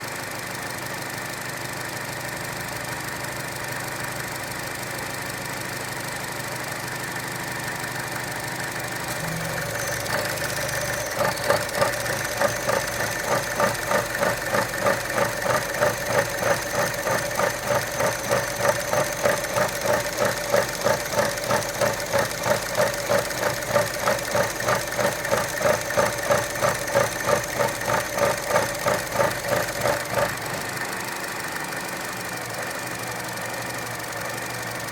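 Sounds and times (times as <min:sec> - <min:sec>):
car engine idling roughly: 0:00.0 - 0:34.9.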